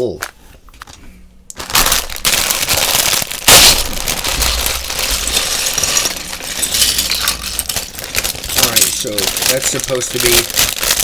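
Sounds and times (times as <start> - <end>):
plastic toy bricks clattering: 1.6 - 11.0.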